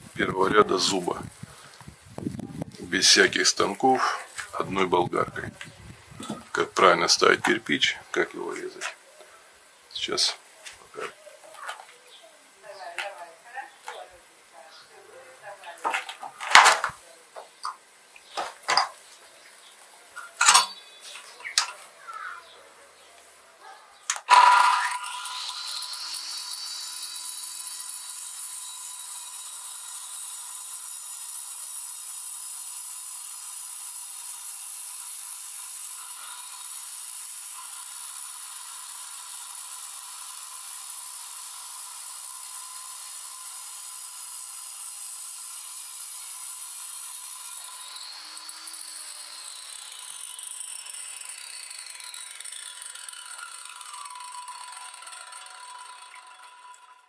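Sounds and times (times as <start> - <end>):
angle grinder cutting brick: 0.0 - 9.0, 14.8 - 22.4, 24.0 - 57.0.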